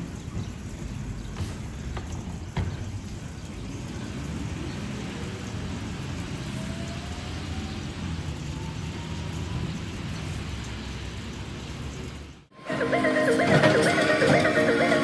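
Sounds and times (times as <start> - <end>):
steady rain: 0.0 - 12.5.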